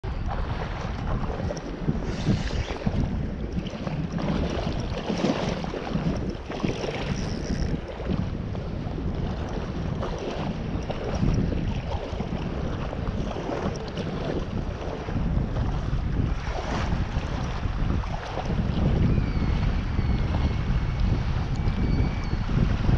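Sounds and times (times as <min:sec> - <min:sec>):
sea water lapping: 0:00.0 - 0:22.9
wind buffeting microphone: 0:00.0 - 0:22.9.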